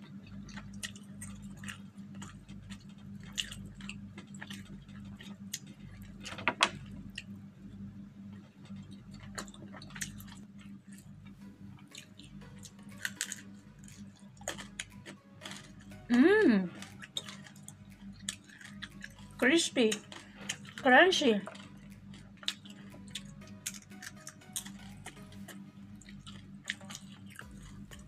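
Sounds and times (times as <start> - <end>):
chewing crispy fried food: 0.0 - 28.0
steady low hum: 0.0 - 28.0.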